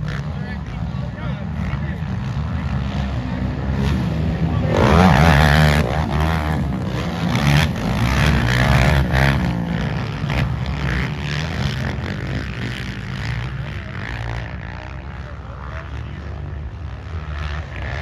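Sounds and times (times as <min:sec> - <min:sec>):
quad engines revving: 0:00.0 - 0:18.0.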